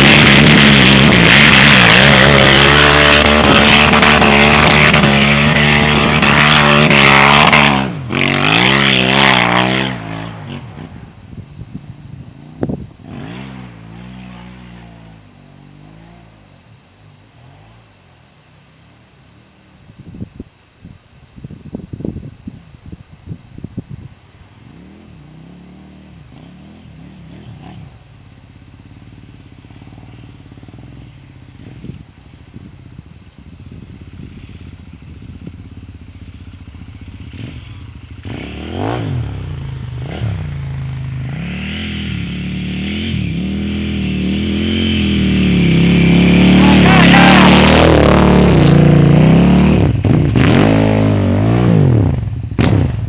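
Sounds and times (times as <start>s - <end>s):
motorcycle engine revving: 0.0s - 18.2s, 24.6s - 53.0s.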